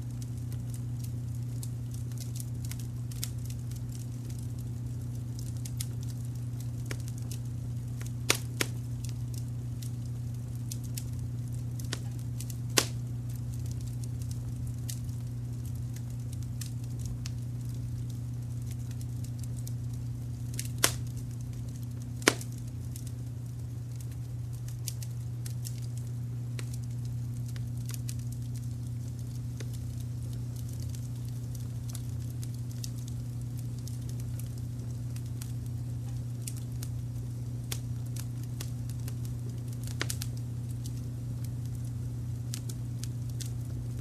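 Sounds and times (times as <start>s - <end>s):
low hum: 0.0s - 44.0s
wood fire crackling: 0.0s - 44.0s
loud fire pops: 0.1s - 44.0s.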